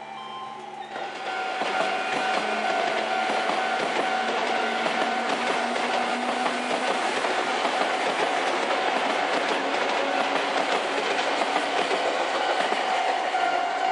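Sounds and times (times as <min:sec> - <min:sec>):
electric train running on track: 0:00.0 - 0:13.9
train wheels rolling: 0:00.6 - 0:13.9.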